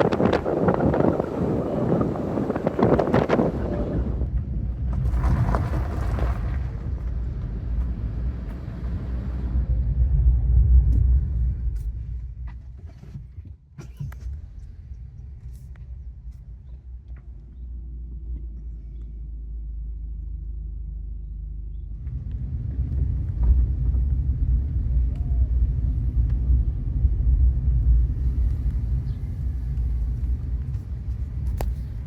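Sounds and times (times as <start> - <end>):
car road rumble: 0.0 - 32.0.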